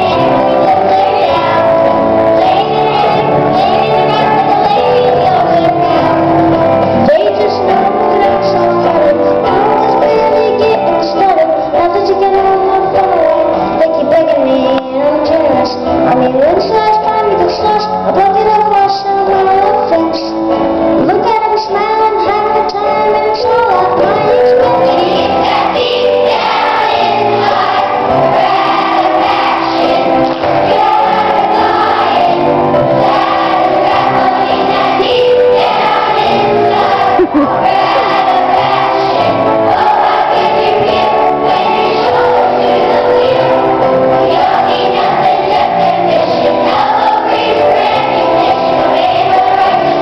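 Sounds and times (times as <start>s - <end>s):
children's choir singing: 0.0s - 50.0s
musical accompaniment: 0.0s - 50.0s.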